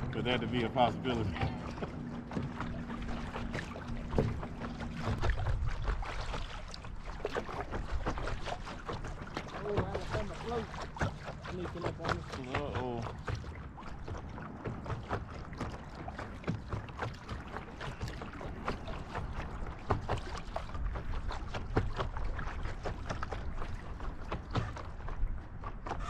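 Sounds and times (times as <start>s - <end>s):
paddles splashing in water: 0.0s - 26.0s.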